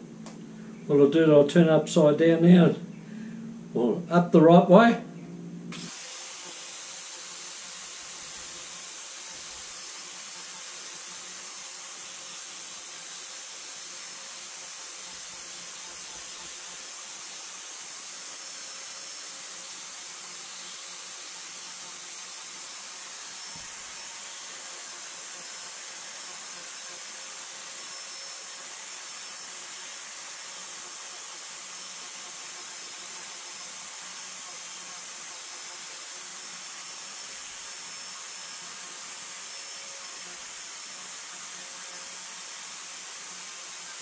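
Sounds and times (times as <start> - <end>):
machinery electric whir: 0.0 - 44.0.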